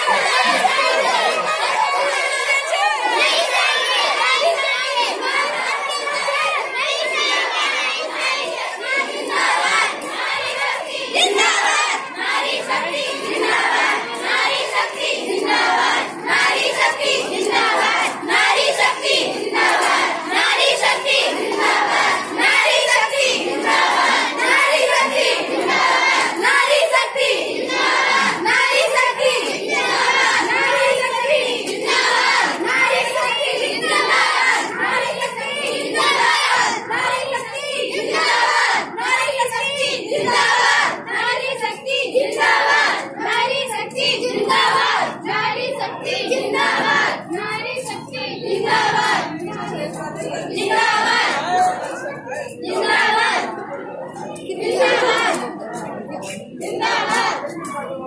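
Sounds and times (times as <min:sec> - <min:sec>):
group of girls chanting: 0:00.0 - 0:58.0.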